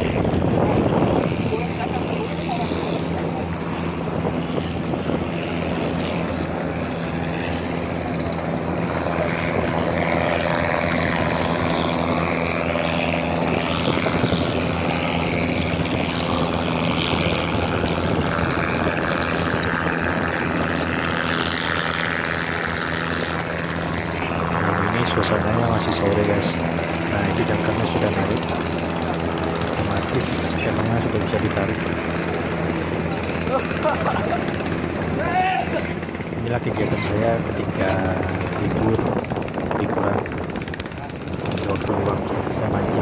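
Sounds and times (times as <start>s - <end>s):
engine humming steadily: 0.0s - 43.0s.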